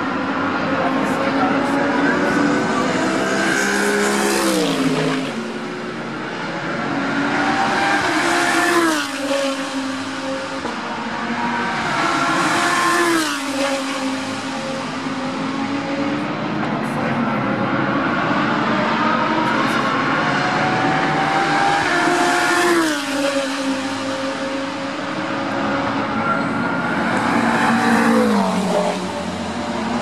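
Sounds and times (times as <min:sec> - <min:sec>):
race cars passing at full speed: 0:00.0 - 0:30.0.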